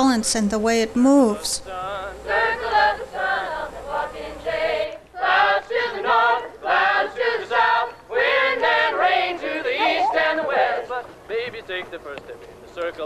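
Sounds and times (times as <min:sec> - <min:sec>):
voices singing unaccompanied: 0:00.0 - 0:11.4.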